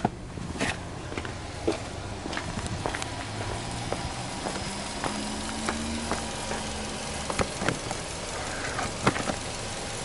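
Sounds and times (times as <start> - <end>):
footsteps on tarmac: 0.0 - 9.4
car engine idling: 0.0 - 10.0.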